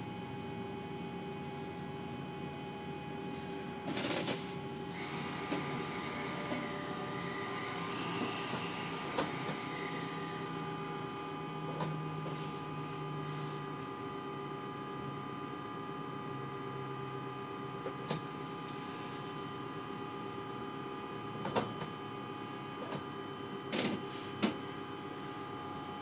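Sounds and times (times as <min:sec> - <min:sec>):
steady multi-tone hum: 0:00.0 - 0:26.0.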